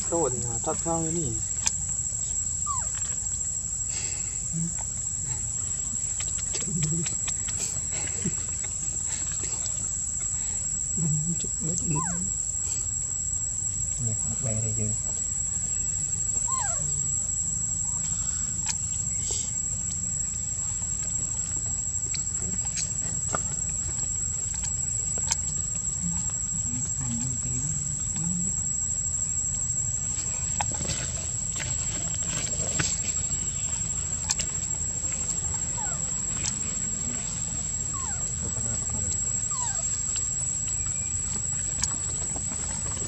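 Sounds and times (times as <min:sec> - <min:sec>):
faint low hum: 0:00.0 - 0:43.0
insects trilling: 0:00.0 - 0:43.0
soft chirps and clicks: 0:00.8 - 0:03.6, 0:04.5 - 0:10.4, 0:15.5 - 0:28.6, 0:29.4 - 0:43.0.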